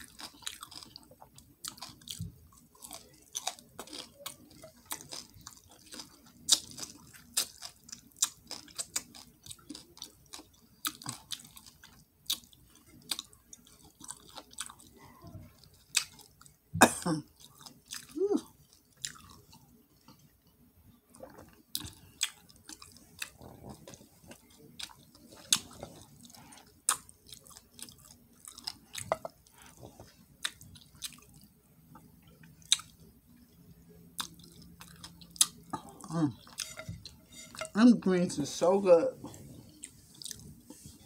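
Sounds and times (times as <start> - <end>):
person chewing crunchy food: 0.0 - 16.6, 17.2 - 20.3, 21.1 - 37.8, 39.2 - 41.0.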